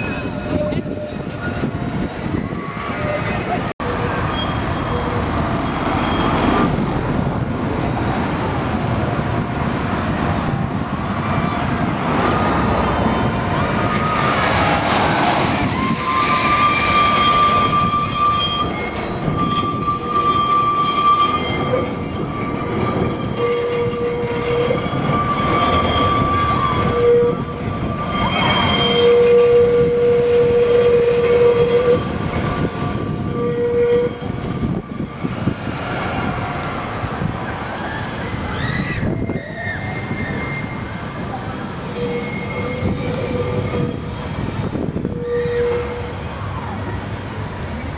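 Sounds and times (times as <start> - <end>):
tram rumbling on rails: 0.0 - 47.9
tram wheels squealing: 0.0 - 47.9.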